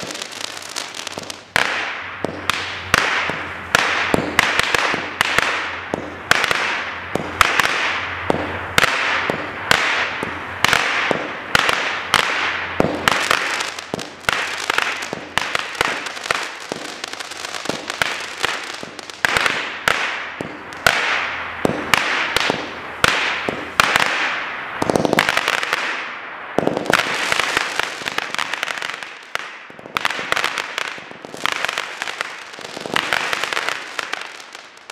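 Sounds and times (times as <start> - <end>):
fireworks cake shots with hiss: 0.0 - 34.9.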